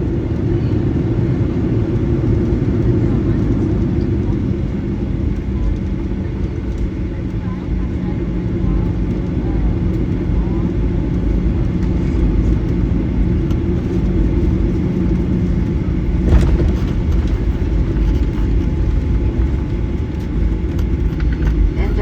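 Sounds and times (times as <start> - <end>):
jet engines low rumble: 0.0 - 22.0.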